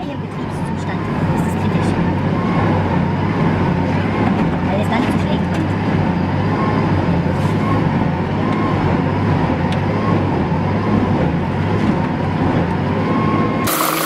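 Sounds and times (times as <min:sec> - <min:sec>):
machine engine droning: 0:00.0 - 0:14.0.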